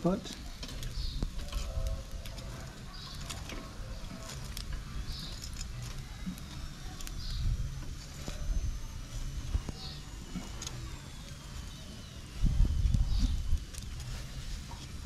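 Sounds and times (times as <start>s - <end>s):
low rumble: 0.8s - 15.0s.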